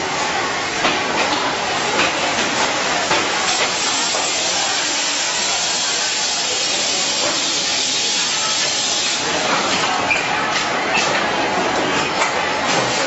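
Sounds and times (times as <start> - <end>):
factory machinery hissing: 0.1 - 11.2.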